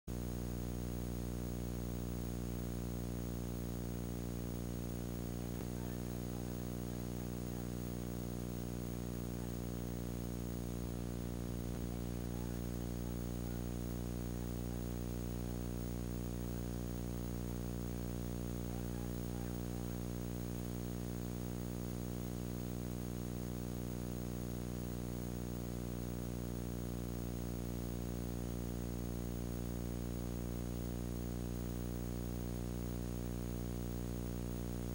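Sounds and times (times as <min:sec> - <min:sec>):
electrical hum: 0:00.1 - 0:34.9.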